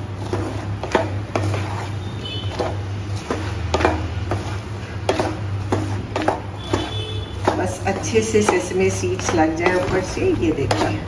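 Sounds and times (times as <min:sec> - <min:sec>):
spatula scraping and knocking pan: 0:00.0 - 0:11.0.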